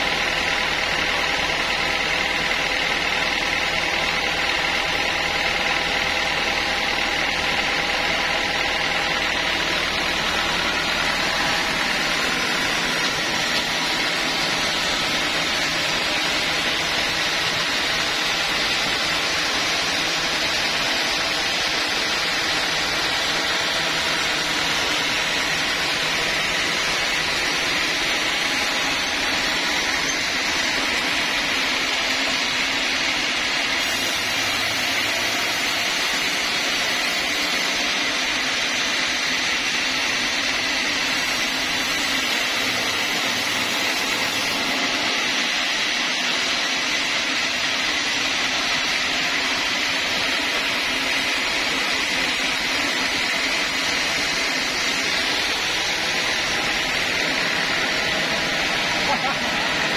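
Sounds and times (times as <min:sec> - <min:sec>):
band saw whirring: 0:00.0 - 0:59.9.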